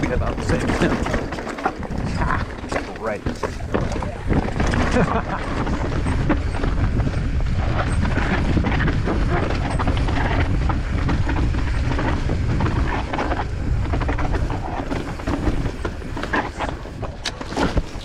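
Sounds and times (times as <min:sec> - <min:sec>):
mountain bike rattling over rocks: 0:00.0 - 0:18.0
wind rumble on microphone: 0:00.0 - 0:18.0.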